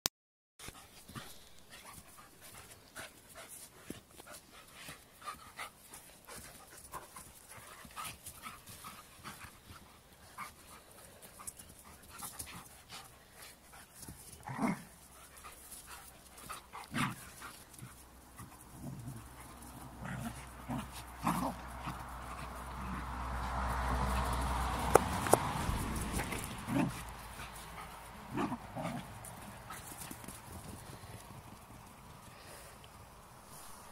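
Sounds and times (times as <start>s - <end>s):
dogs panting: 0.6s - 33.9s
dogs scuffling: 0.7s - 32.3s.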